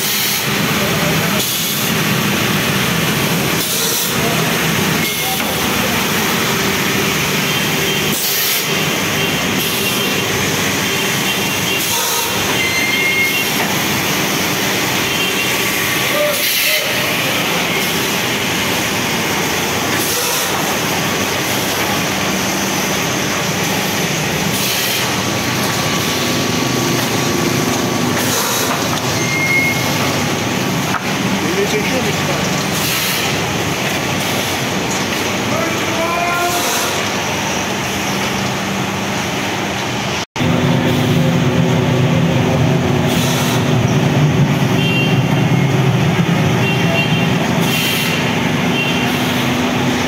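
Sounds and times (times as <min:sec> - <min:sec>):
loud machinery noise: 0:00.0 - 0:50.0.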